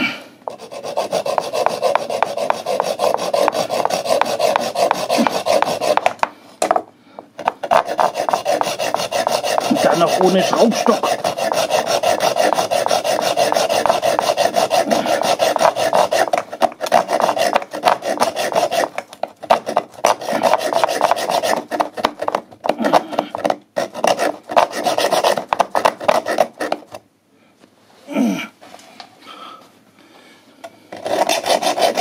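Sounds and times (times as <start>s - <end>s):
hacksaw cutting through pipe: 0.5s - 6.2s, 7.4s - 27.0s, 30.9s - 32.0s.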